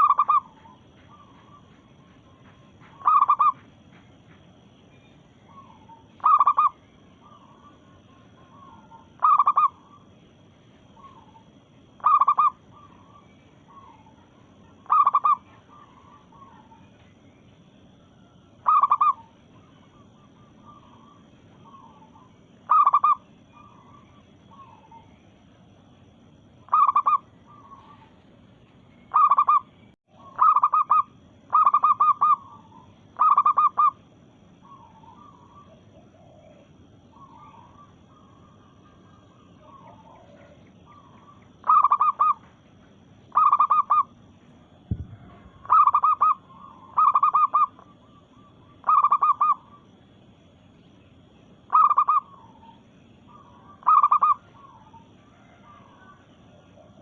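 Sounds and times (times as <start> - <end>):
dove calling: 0.0 - 57.0.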